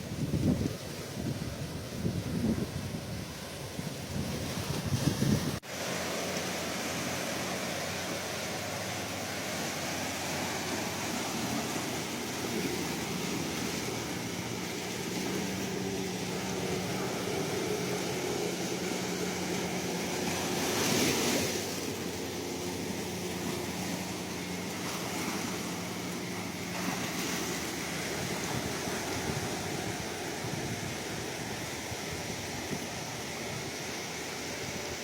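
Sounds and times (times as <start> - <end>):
ocean waves washing ashore: 0.0 - 35.0
wave breaking: 0.0 - 35.0.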